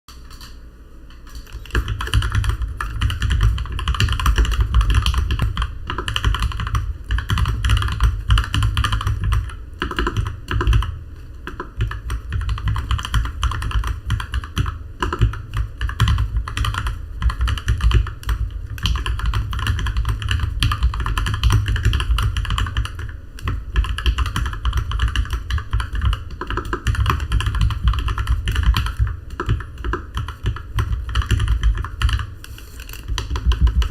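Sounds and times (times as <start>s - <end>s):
fast mechanical keyboard typing: 1.3s - 33.9s.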